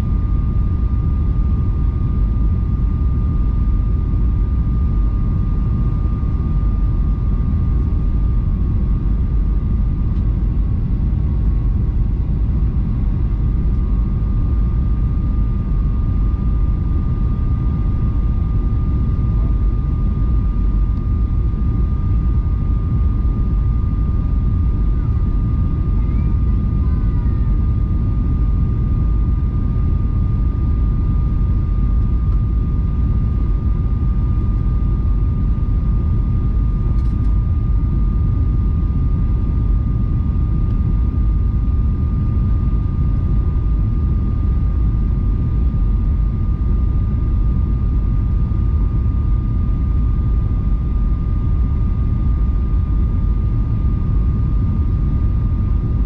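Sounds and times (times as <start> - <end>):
engine and airflow rumble: 0.0 - 56.0
thin constant whine: 0.0 - 56.0.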